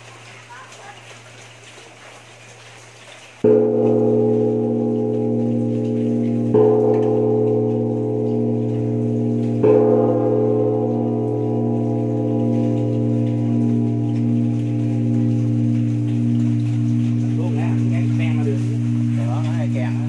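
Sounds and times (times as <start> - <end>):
bronze temple bell ringing: 3.4 - 20.0.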